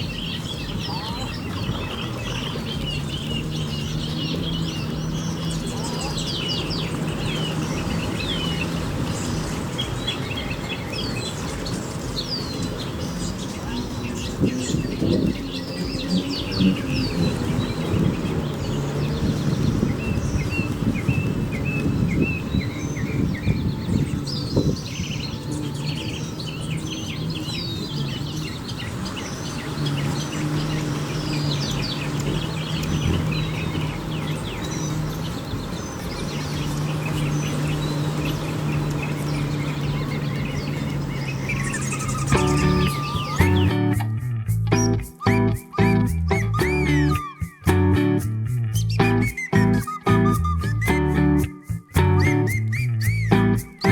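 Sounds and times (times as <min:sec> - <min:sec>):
gulls calling: 0:00.0 - 0:53.9.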